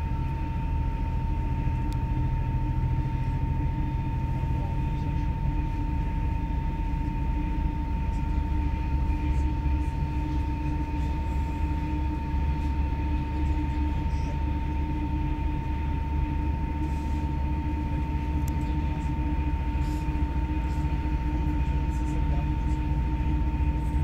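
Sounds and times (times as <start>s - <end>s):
train rumbling at speed: 0.0s - 24.0s.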